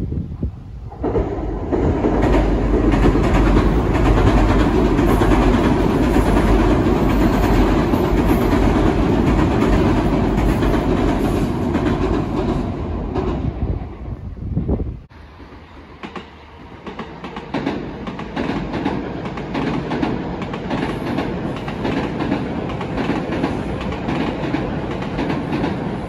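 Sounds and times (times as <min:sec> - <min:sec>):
train wheels rumbling on steel bridge: 0:00.1 - 0:26.0.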